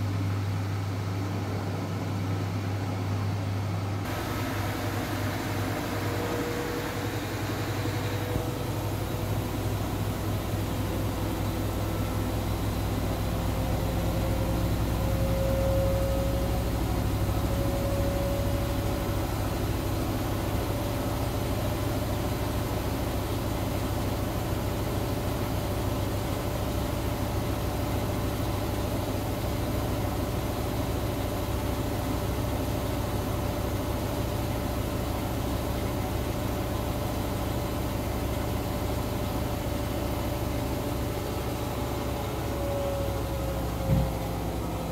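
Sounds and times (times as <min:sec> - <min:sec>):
washing machine running: 0:00.0 - 0:44.9.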